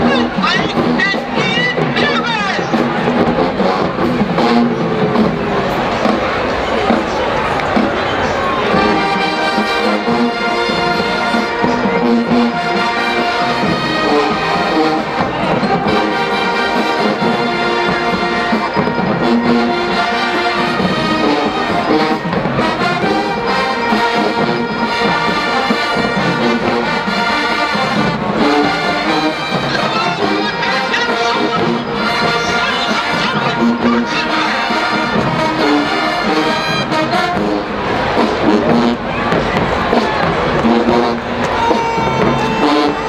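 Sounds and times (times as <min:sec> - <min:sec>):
marching band playing: 0:00.0 - 0:43.0
trumpets and trombones: 0:00.0 - 0:43.0.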